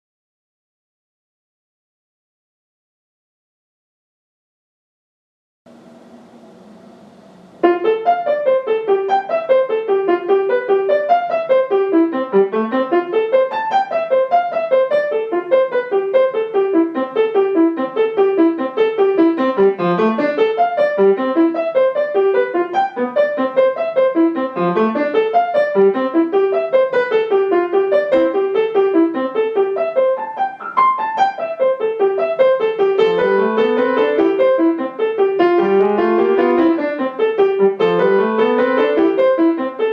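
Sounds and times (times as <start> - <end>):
solo piano playing staccato notes: 7.6 - 39.9.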